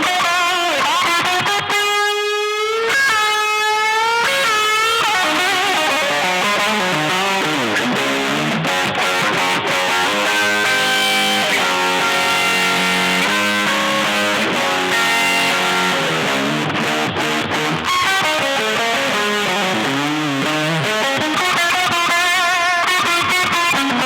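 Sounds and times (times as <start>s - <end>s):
bent guitar notes with vibrato: 0.0s - 24.0s
fuzz electric guitar chords: 0.0s - 24.0s.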